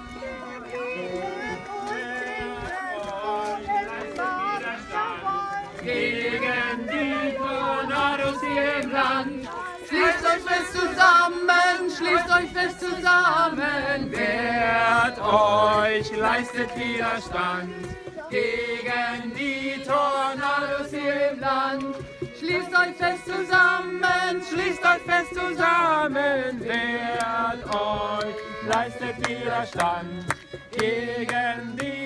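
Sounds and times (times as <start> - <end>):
choir singing: 0.0 - 32.0.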